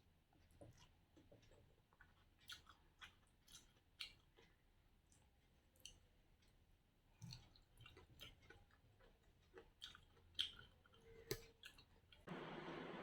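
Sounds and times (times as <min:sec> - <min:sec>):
close chewing with wet mouth clicks: 0:00.4 - 0:06.6, 0:07.2 - 0:12.2.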